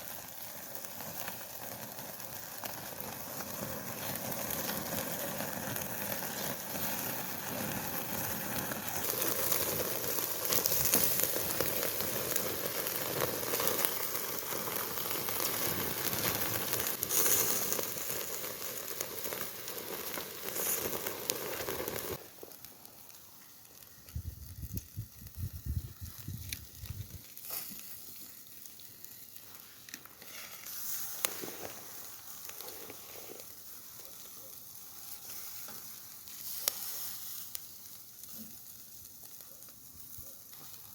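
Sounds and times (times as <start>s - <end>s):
fire crackling and popping: 0.0s - 40.9s
meat sizzling over a campfire: 0.0s - 40.9s.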